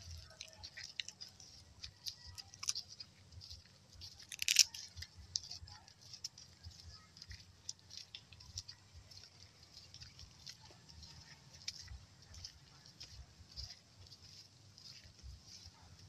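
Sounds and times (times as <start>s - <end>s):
crackling clicks and rustles: 0.0s - 16.0s
footsteps on a footpath: 0.0s - 16.0s.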